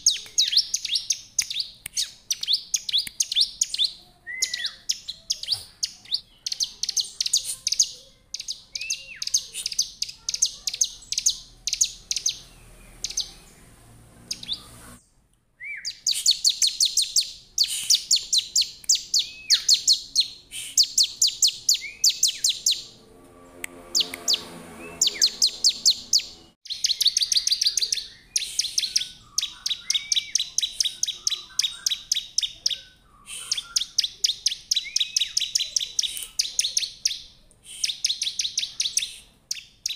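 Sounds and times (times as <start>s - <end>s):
bird chattering song: 0.0s - 22.9s, 24.0s - 39.9s.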